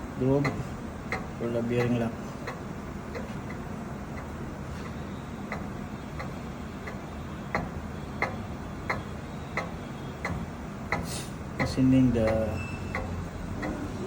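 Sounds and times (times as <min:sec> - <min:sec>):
low machine hum: 0:00.0 - 0:14.0
sharp light ticks: 0:00.4 - 0:13.8.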